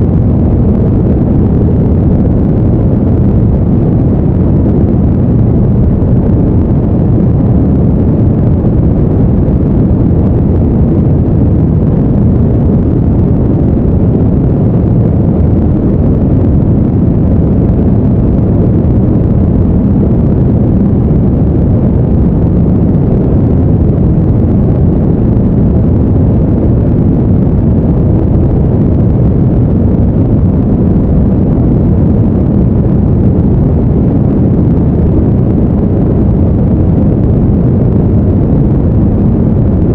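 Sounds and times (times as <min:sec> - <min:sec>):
deep rumbling brown noise: 0:00.0 - 0:39.9.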